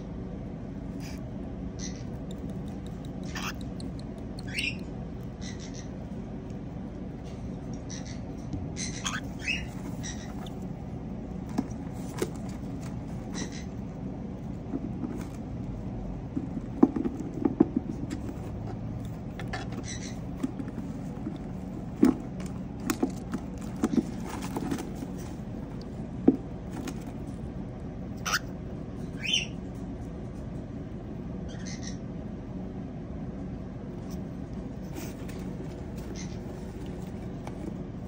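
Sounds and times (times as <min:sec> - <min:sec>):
birds scratching on wood shavings: 0:01.0 - 0:30.5, 0:34.0 - 0:38.0.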